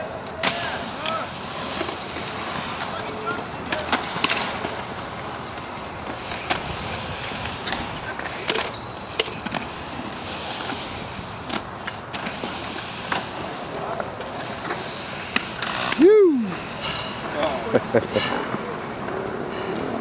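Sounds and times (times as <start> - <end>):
skate wheels rolling on concrete: 0.0 - 20.0
skates clacking on concrete: 0.0 - 20.0.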